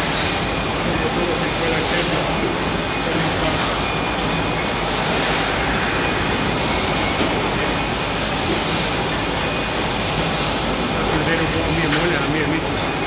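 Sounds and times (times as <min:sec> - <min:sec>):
packing machinery running: 0:00.0 - 0:13.0.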